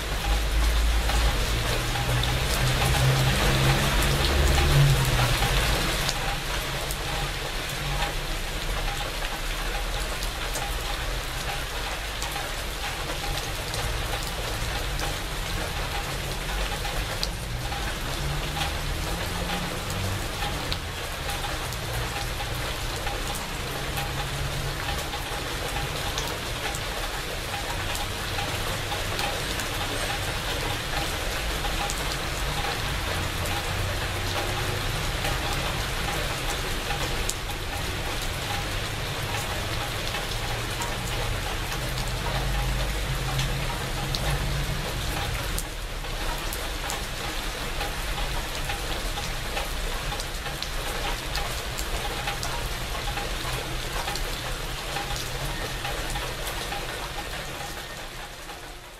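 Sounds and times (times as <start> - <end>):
rain pattering on shrubs: 0.0 - 58.9.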